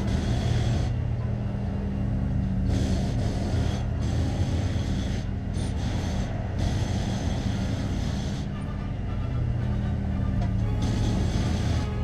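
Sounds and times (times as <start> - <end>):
heavy vehicle engine humming: 0.0 - 12.0.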